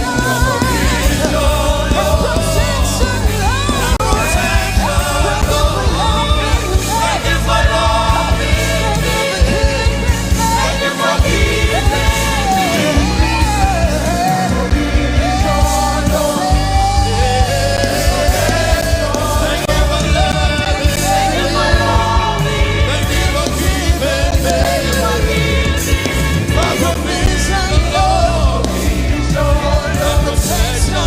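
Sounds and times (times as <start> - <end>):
gospel band with bass and drums: 0.0 - 31.0
person singing: 0.0 - 31.0.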